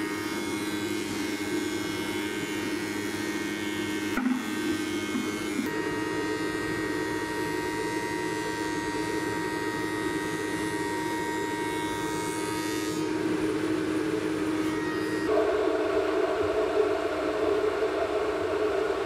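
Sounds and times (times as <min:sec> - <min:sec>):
thickness planer whining: 0:00.0 - 0:19.0.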